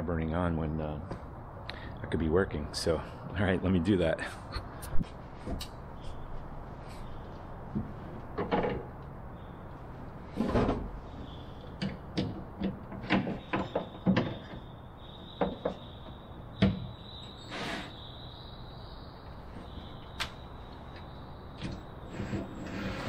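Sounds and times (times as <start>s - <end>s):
faint high steady whine: 0.0s - 23.0s.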